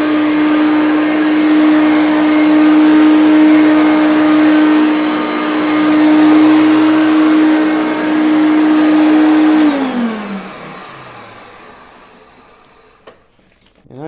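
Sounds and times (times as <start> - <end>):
vacuum cleaner motor whine: 0.0 - 13.8.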